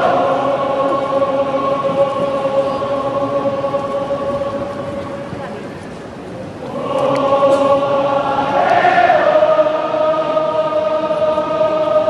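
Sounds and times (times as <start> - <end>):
stadium crowd singing chant: 0.0 - 5.7, 6.4 - 12.0.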